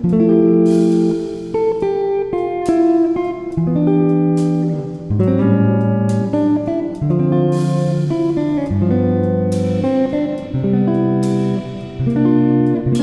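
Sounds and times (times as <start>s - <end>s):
guitar background music: 0.0s - 13.0s.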